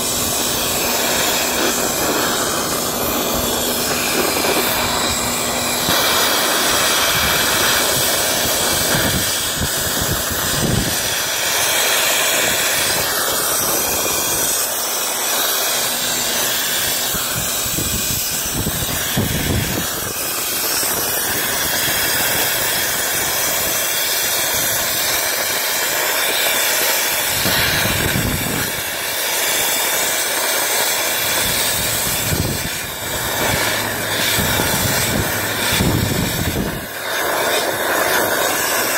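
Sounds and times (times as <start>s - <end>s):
rush of air through duct: 0.0s - 38.9s.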